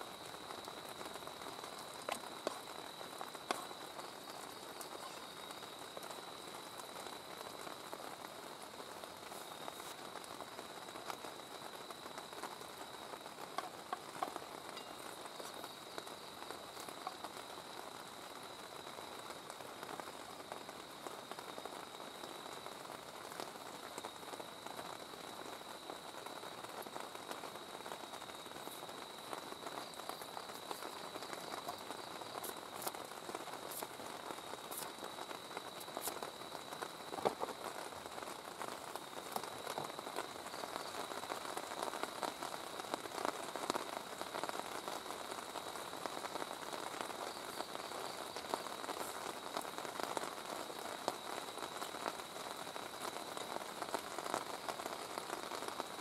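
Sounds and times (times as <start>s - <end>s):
rain on a tent: 0.0s - 56.0s.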